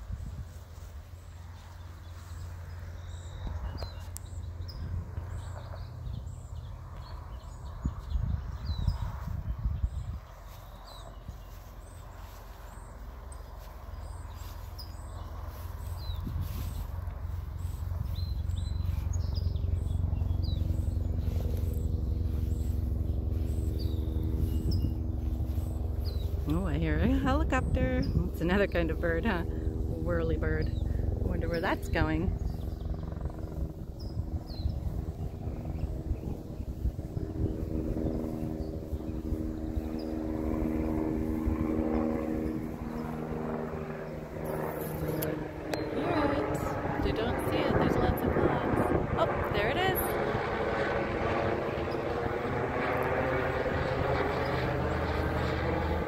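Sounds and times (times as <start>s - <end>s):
helicopter rotor and engine: 0.0s - 56.0s
small birds chirping: 0.0s - 56.0s.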